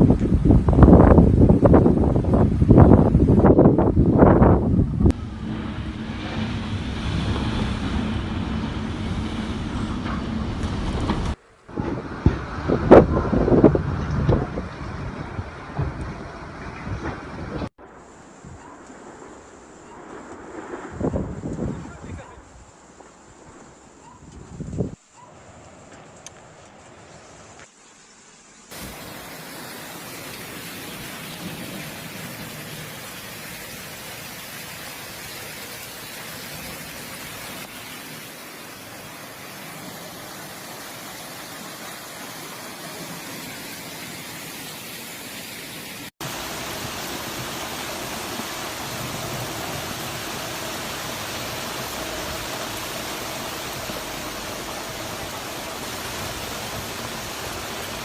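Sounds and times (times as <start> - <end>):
heavy rain pouring: 0.0 - 17.7, 28.7 - 58.0.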